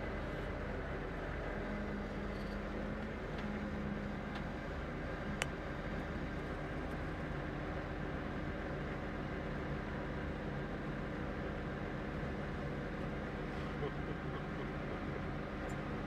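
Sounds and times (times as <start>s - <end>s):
tractor and harvester engines: 0.0s - 16.0s.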